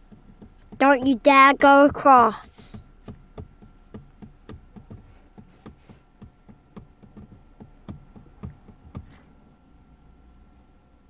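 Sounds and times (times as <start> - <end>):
light tapping: 0.0 - 9.3
faint steady hum: 0.0 - 11.0.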